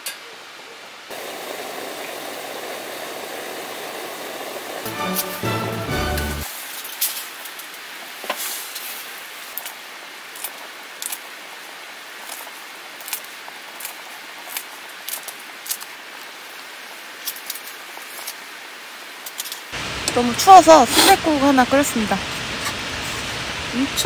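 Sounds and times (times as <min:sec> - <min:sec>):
soup boiling with bubbling hiss: 0:01.1 - 0:24.0.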